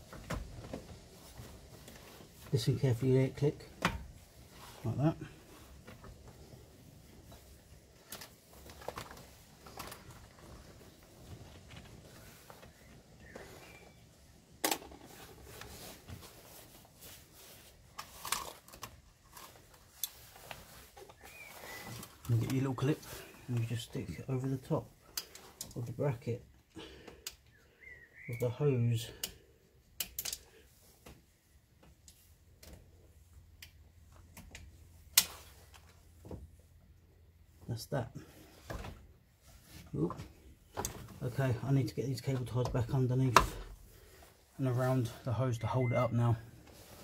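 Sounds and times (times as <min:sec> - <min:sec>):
hands rustling a hose: 0:00.0 - 0:27.5, 0:29.1 - 0:47.0.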